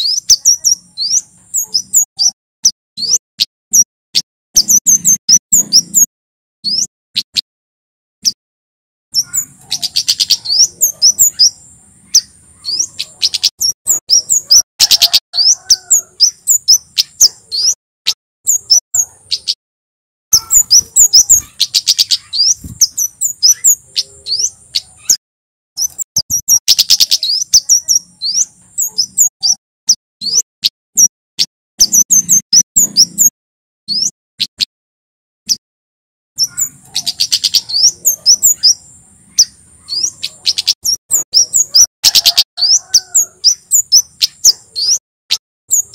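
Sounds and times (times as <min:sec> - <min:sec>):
bird singing high chirps: 0:00.0 - 0:07.4, 0:09.1 - 0:19.6, 0:20.3 - 0:25.2, 0:25.8 - 0:31.1, 0:31.8 - 0:33.3, 0:33.9 - 0:34.7, 0:36.4 - 0:45.9.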